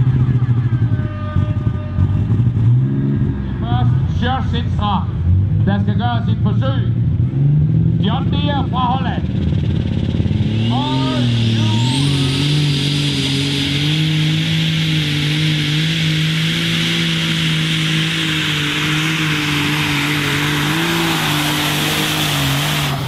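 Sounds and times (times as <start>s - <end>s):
diesel engine running flat out: 0.0s - 23.0s.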